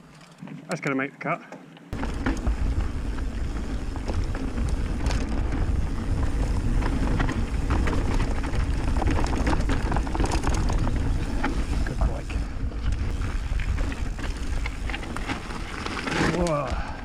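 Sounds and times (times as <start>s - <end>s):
bike rattling and clicking: 1.8s - 17.0s
rumble of bike tyres: 1.8s - 17.0s
wind buffeting microphone: 2.0s - 17.0s.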